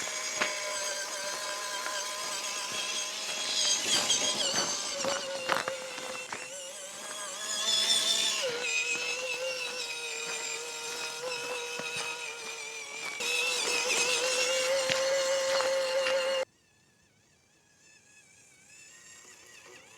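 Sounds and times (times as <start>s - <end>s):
rc crawler motor whining: 0.0s - 19.9s.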